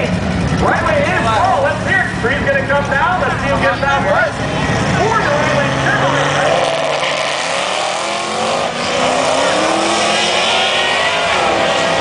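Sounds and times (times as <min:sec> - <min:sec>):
drag cars accelerating: 0:00.0 - 0:12.0.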